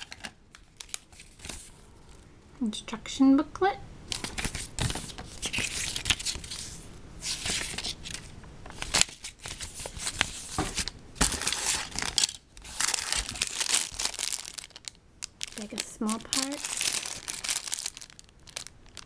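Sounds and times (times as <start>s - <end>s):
plastic bags and paper crinkling: 0.0s - 1.8s, 4.1s - 19.0s.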